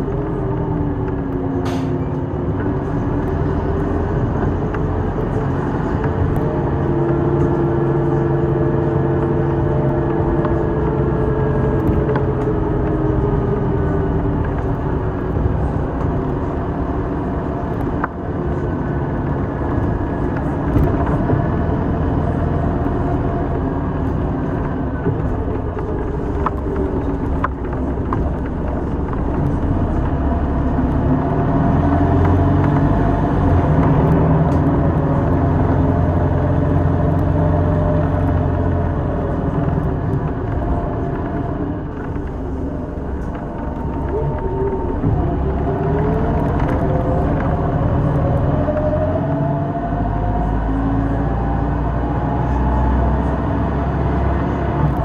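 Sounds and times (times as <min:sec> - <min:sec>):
bus engine and road noise: 0:00.0 - 0:55.0.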